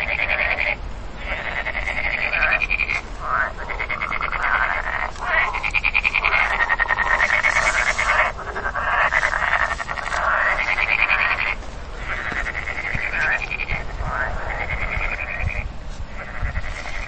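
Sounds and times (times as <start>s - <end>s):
frog croaking: 0.0s - 17.0s.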